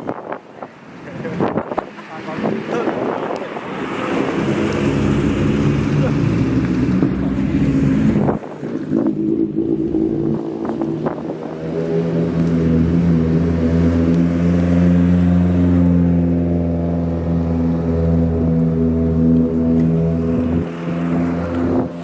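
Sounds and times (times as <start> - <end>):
car engine running: 1.2 - 22.0.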